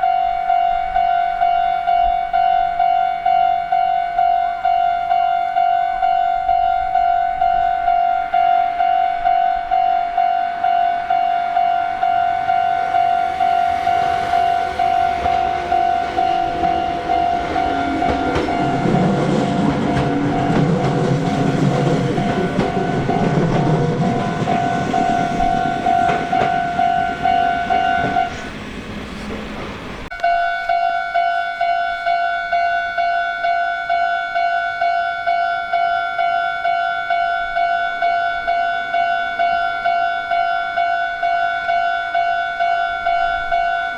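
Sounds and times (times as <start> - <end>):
level crossing bell clanging: 0.0 - 28.6, 30.1 - 43.9
electric train rumbling past: 0.0 - 43.9.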